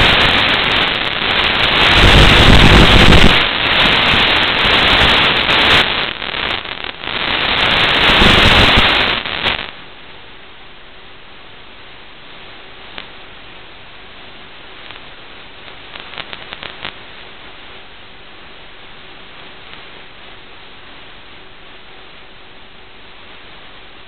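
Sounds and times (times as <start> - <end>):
crackling static hiss: 0.0 - 24.0.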